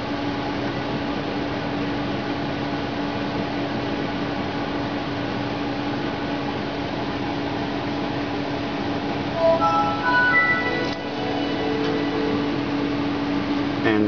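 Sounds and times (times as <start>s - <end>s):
computer cooling fan whirring: 0.0s - 14.0s.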